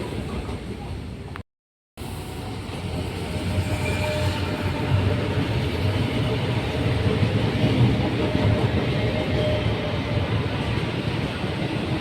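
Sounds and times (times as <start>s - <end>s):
electric train rumbling by: 2.0s - 12.0s.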